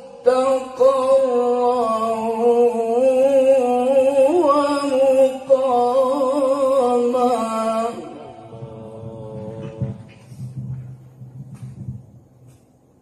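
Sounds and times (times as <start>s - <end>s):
man chanting melismatic recitation: 0.0s - 10.9s.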